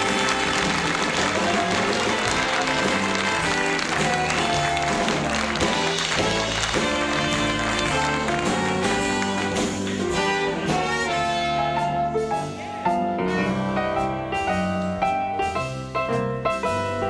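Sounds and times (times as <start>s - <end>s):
grand piano playing: 0.0s - 17.0s.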